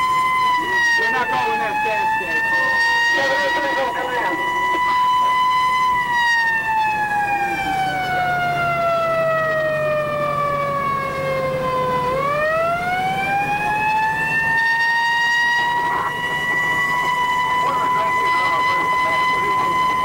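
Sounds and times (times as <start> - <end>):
fire truck siren wailing: 0.0 - 20.0.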